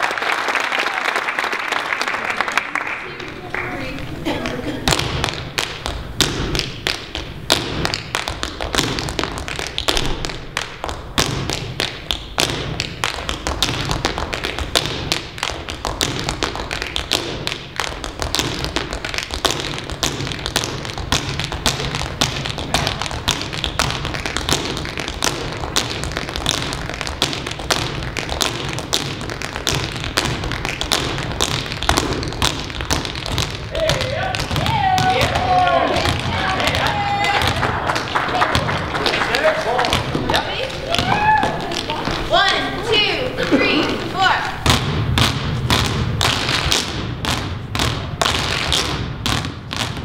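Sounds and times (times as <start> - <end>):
tap shoes on stage floor: 0.0 - 50.0
basketballs dribbling: 2.7 - 50.0.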